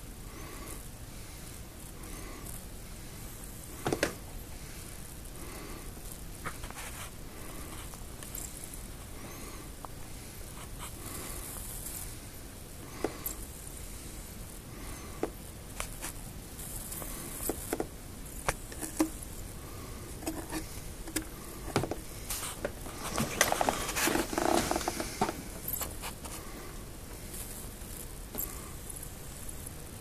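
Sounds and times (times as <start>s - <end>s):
crackling and rustling: 0.2s - 30.0s.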